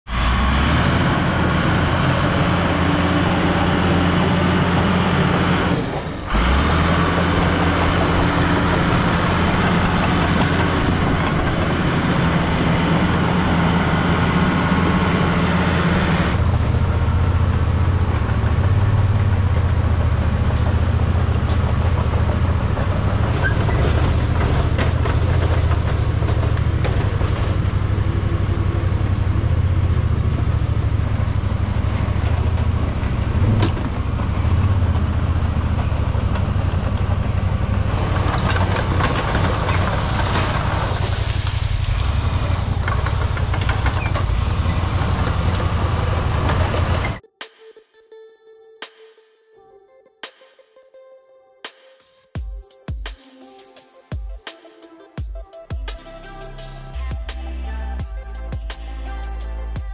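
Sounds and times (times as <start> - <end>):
diesel engine running: 0.1 - 47.2, 56.0 - 59.9.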